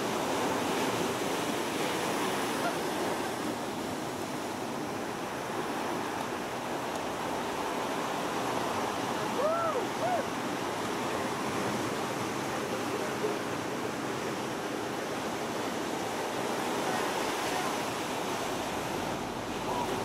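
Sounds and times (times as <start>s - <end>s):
ocean surf washing ashore: 0.0s - 20.0s.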